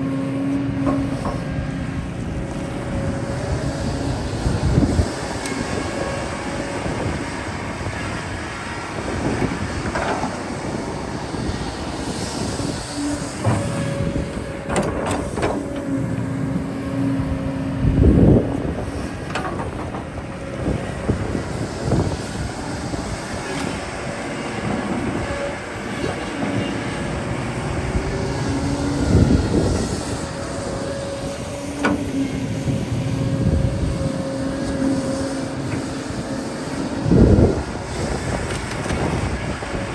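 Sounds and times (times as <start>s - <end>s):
excavator diesel engine running: 0.0s - 39.9s
hydraulic whine: 0.0s - 39.9s.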